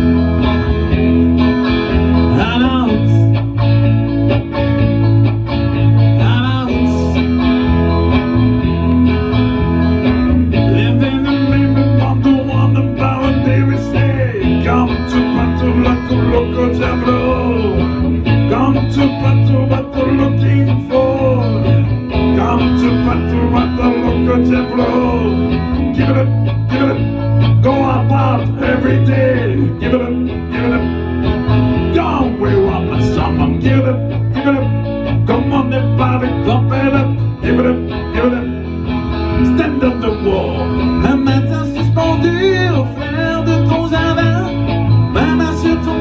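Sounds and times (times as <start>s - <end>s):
low bass line: 0.0s - 46.0s
plucked guitar melody: 0.0s - 46.0s.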